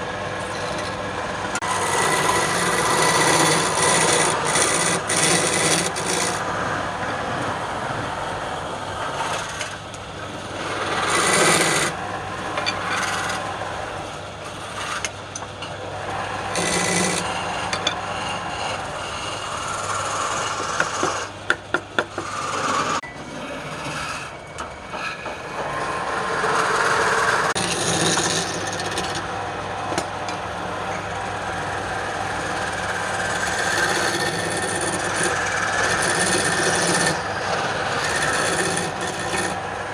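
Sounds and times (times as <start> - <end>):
turning tool scraping wood: 0.0 - 6.5, 9.0 - 9.8, 10.4 - 13.6, 14.4 - 15.2, 16.1 - 21.3, 22.0 - 29.3, 31.6 - 39.8
wood lathe humming: 0.0 - 15.1, 15.8 - 23.0, 24.9 - 39.9.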